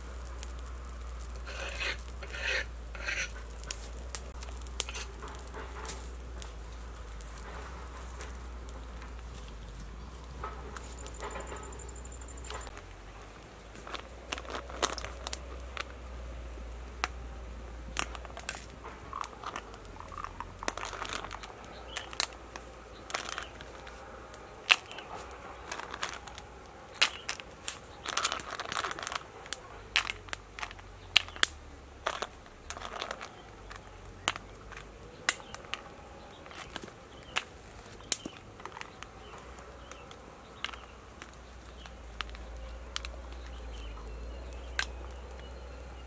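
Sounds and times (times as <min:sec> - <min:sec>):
crackling wood fire: 0:00.0 - 0:46.0.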